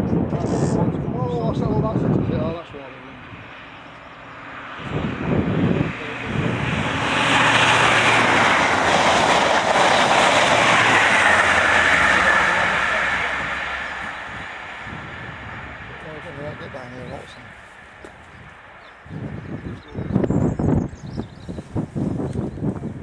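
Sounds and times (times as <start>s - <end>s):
train passing at speed: 1.1s - 20.8s.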